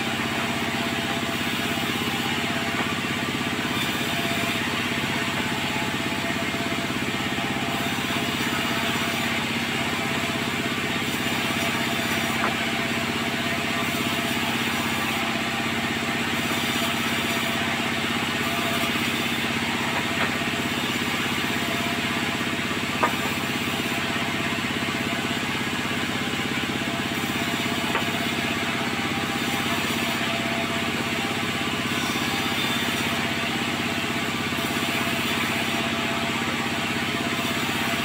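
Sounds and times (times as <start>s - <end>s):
sawmill machinery humming: 0.0s - 38.0s.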